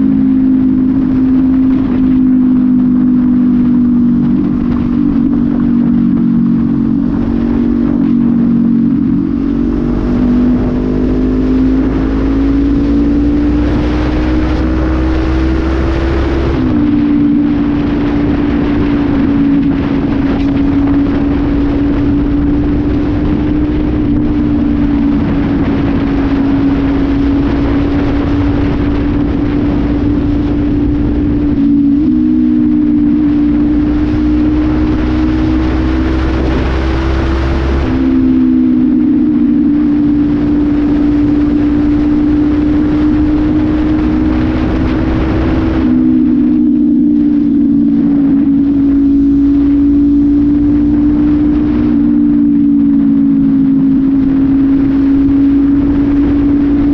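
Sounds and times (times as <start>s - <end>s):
motorcycle engine revving: 0.0s - 56.9s
road noise: 0.0s - 56.9s
wind rush: 0.0s - 56.9s.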